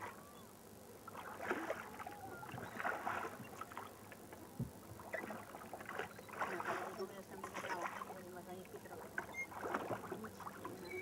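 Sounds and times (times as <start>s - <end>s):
water splashing around oars: 1.0s - 11.0s.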